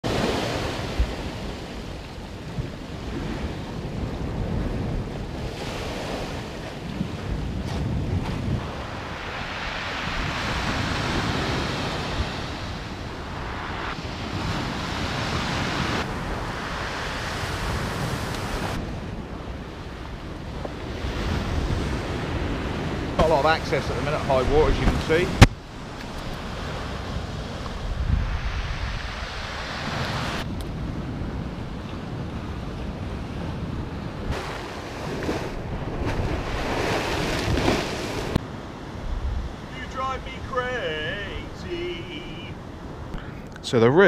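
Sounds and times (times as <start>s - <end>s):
wind rumbling on microphone: 0.0s - 39.8s
waves breaking on beach: 0.0s - 43.1s.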